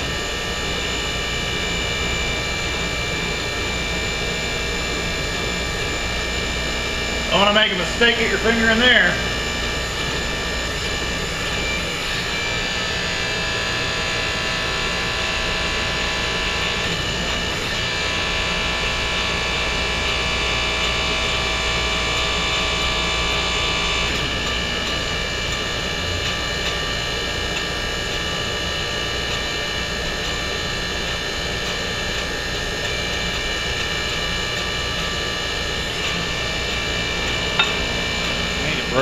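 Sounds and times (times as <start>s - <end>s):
hydraulic pump whining and humming: 0.0s - 39.0s.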